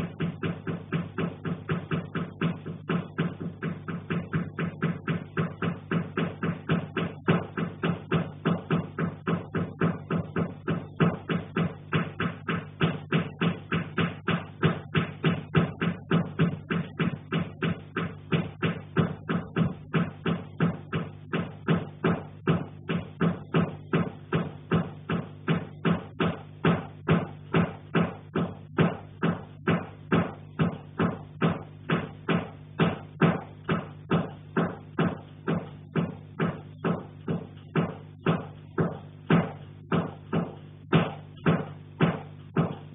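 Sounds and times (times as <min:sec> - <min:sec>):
low steady hum: 0:00.0 - 0:42.9
rhythmic knocking in attic: 0:00.0 - 0:42.9.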